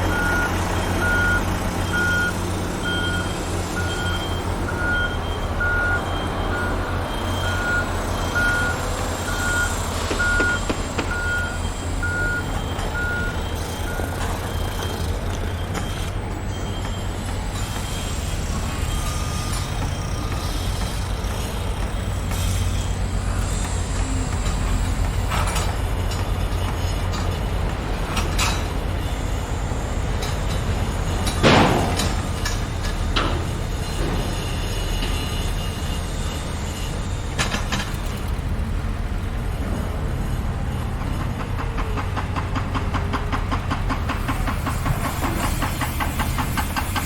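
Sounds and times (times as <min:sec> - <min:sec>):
engine rumbling: 0:00.0 - 0:47.0
truck reversing alarm beeping: 0:00.0 - 0:47.0.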